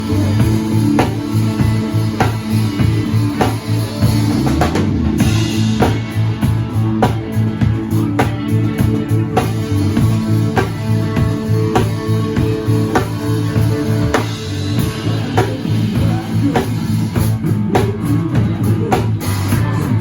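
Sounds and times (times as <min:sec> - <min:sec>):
drum kit steady beat: 0:00.0 - 0:20.0
live rock band playing: 0:00.0 - 0:20.0.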